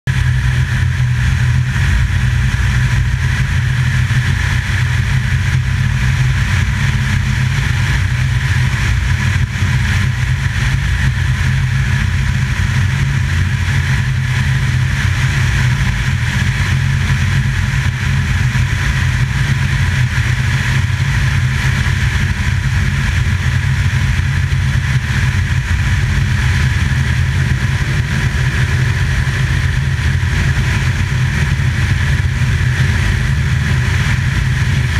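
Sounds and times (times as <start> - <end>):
drone motors and propellers: 0.1 - 34.9
wind rumbling on microphone: 0.1 - 34.9.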